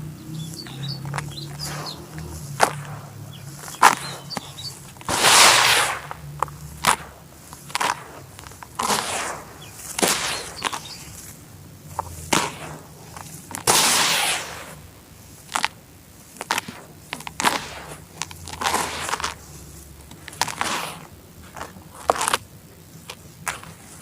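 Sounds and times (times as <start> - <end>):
charcoal being crushed: 0.6 - 14.1, 15.3 - 24.0.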